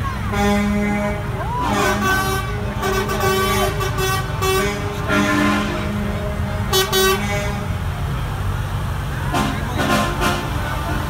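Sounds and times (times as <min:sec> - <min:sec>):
truck horn blasts: 0:00.0 - 0:08.1, 0:09.2 - 0:11.0
truck engines rumbling: 0:00.0 - 0:11.0.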